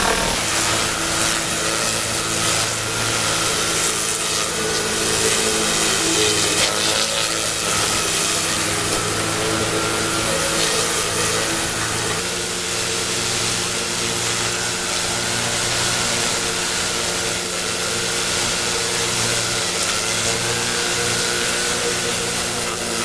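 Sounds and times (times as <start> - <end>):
high-pressure water spraying: 0.0 - 23.0
pressure washer engine running: 0.0 - 23.0.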